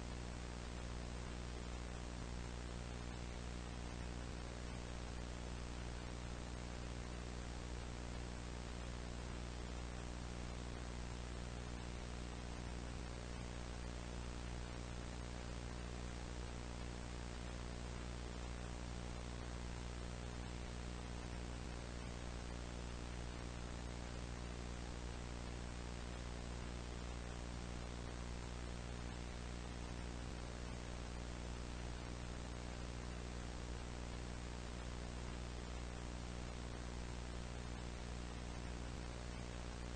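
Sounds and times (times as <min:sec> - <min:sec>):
electrical hum: 0:00.0 - 0:39.9
static hiss: 0:00.0 - 0:39.9.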